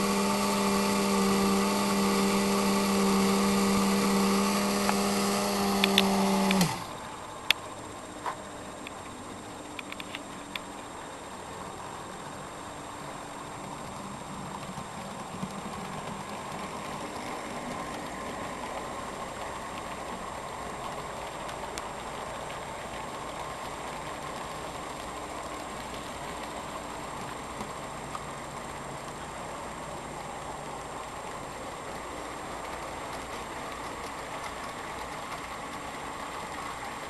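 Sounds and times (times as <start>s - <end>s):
model train motor hum: 0.0s - 37.0s.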